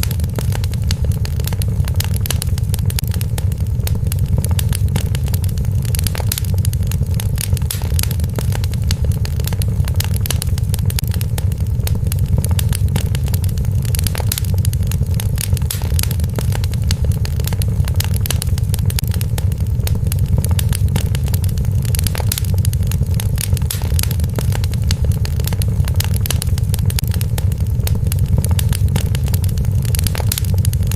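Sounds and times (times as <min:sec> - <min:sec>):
low rumble of flames: 0:00.0 - 0:30.9
wood fire crackling and popping: 0:00.0 - 0:30.9.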